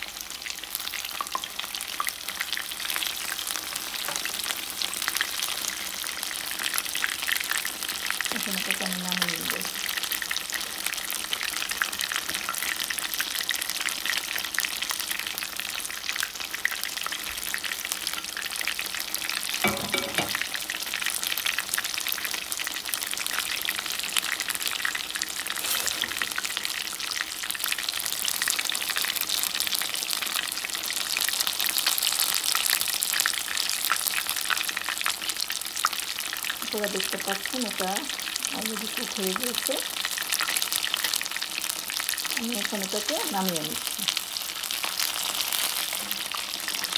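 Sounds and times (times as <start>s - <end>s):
fish sizzling in hot oil: 0.0s - 46.9s.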